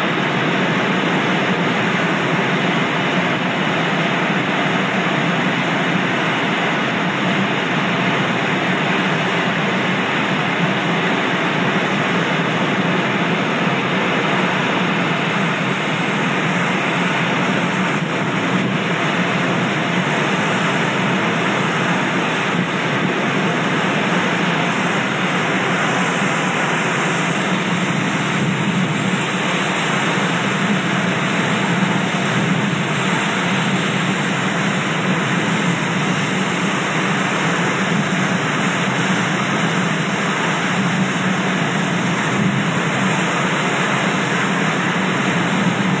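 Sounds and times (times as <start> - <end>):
driving rain: 0.0 - 46.0
storm wind roaring: 7.2 - 46.0.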